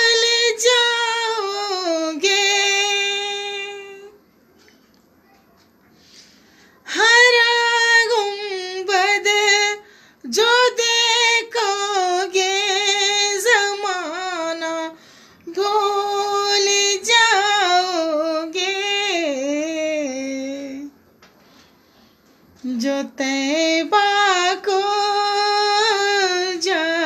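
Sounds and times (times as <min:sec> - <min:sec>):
woman singing unaccompanied: 0:00.0 - 0:04.2, 0:06.8 - 0:21.0, 0:22.6 - 0:27.0.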